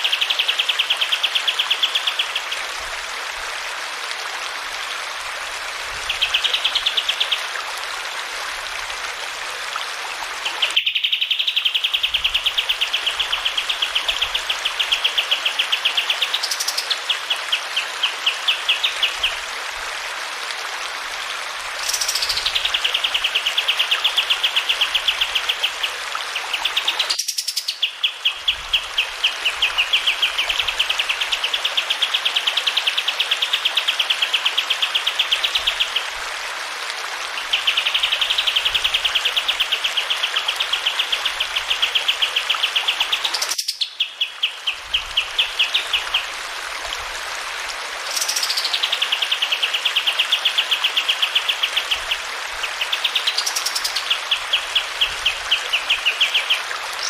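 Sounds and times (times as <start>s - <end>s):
flowing water hiss: 0.0s - 57.0s.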